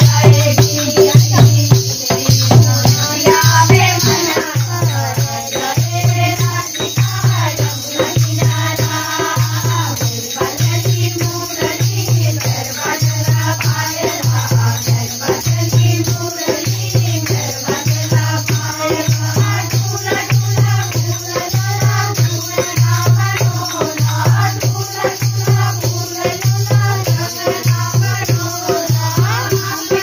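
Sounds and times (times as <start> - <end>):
shaken percussion: 0.0 - 30.0
women singing devotional song: 0.0 - 30.0
hand-clapping: 4.0 - 30.0.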